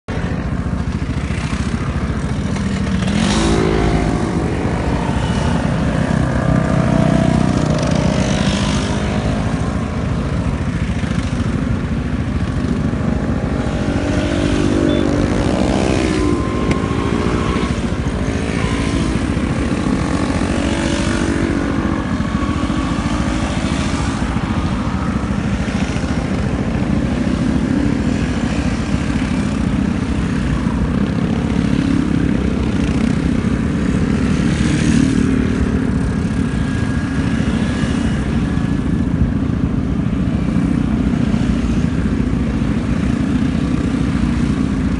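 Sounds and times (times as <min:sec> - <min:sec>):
scooters riding past: 0:00.1 - 0:44.9.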